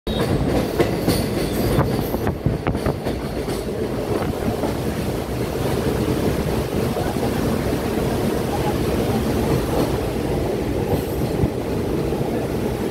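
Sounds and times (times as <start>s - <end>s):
train wheels rumbling on rails: 0.1s - 12.9s.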